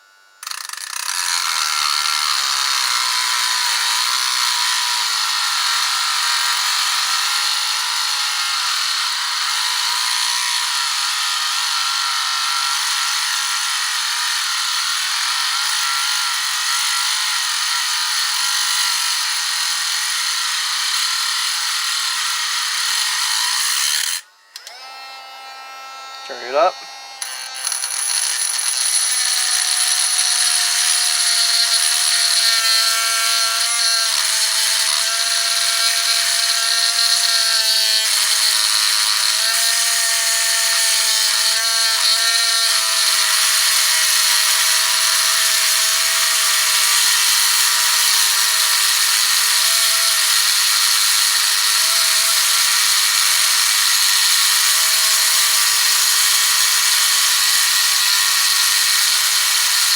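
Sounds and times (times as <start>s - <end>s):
cutting wheel grinding metal: 0.0s - 59.9s
drill motor whine: 0.0s - 59.9s.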